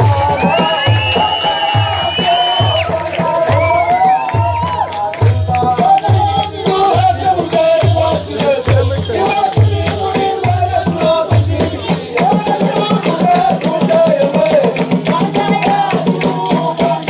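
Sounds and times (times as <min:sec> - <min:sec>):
drums beating: 0:00.0 - 0:17.0
rattling percussion: 0:00.0 - 0:17.0.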